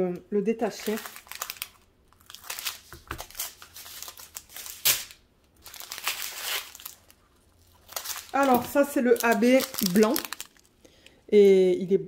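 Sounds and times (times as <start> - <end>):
plastic bags crinkling: 0.6 - 11.2.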